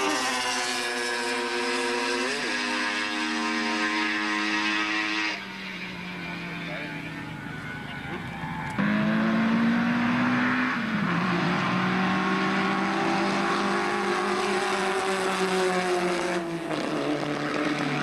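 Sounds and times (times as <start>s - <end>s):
race car engine passing: 0.0s - 18.0s.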